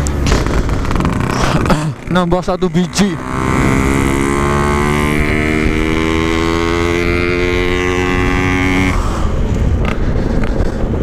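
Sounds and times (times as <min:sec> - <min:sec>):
motorcycle engine at high revs: 0:00.0 - 0:10.0
wind and road rush: 0:00.0 - 0:11.0.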